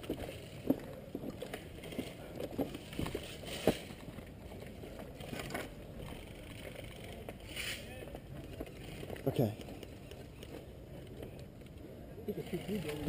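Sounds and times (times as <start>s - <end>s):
footsteps on rough ground: 0.0s - 11.6s.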